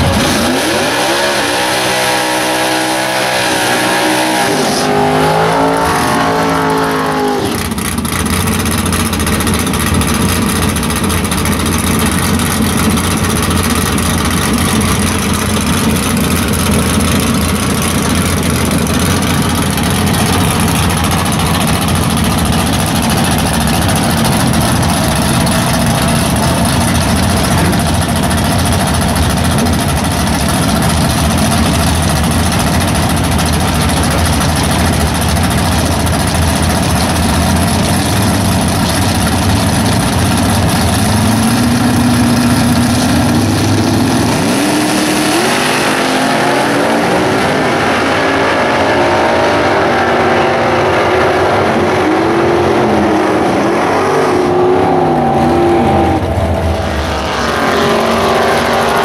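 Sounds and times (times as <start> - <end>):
drag car engine revving: 0.0 - 59.0
drag car engine running loud: 0.0 - 59.0.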